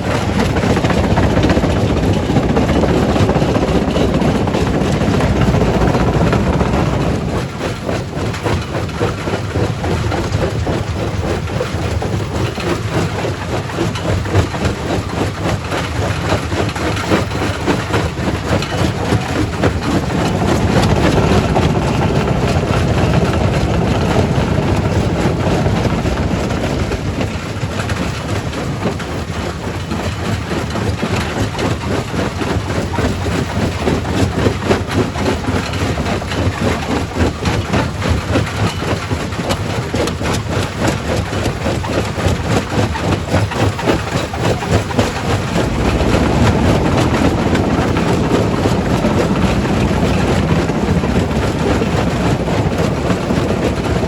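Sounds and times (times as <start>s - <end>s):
heavy machine rumble: 0.0s - 54.0s.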